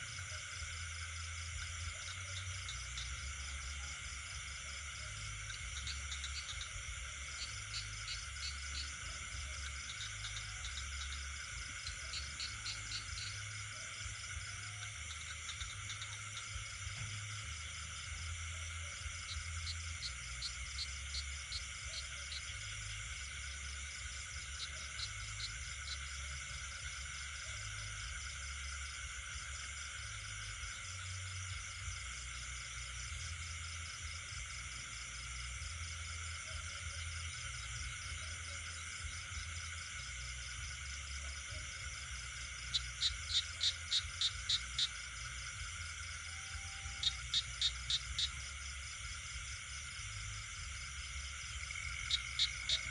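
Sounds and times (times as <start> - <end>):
crickets and insects trilling: 0.0 - 52.9
frogs calling: 0.0 - 52.9.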